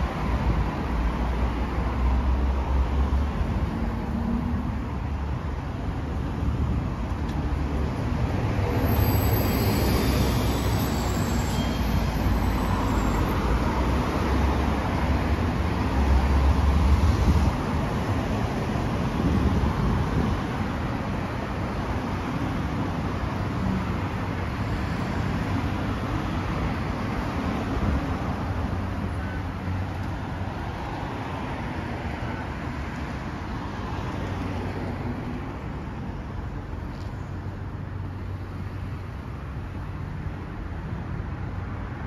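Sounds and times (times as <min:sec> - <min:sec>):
cars passing on road: 0:00.0 - 0:42.0.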